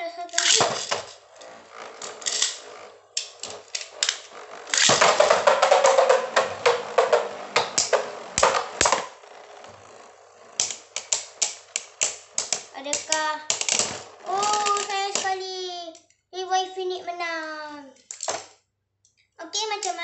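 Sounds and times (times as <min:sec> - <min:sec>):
spinning tops clashing and rattling: 0:00.3 - 0:16.0, 0:18.0 - 0:18.5.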